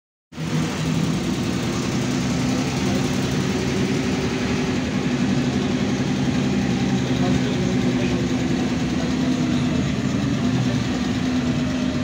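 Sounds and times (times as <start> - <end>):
bus diesel engine running: 0.3 - 12.0
road noise: 0.3 - 12.0.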